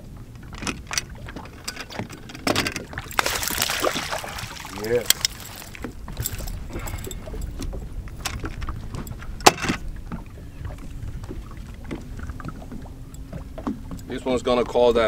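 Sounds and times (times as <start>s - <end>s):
knocks and rattles on boat deck: 0.0s - 15.0s
wind and water rumble: 0.0s - 15.0s.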